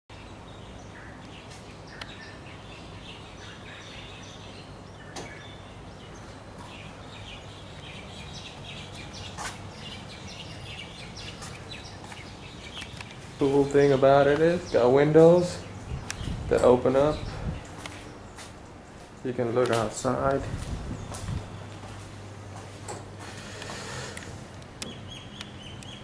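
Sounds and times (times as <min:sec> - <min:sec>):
birds chirping: 0:00.1 - 0:26.0
outdoor background hiss: 0:00.1 - 0:26.0.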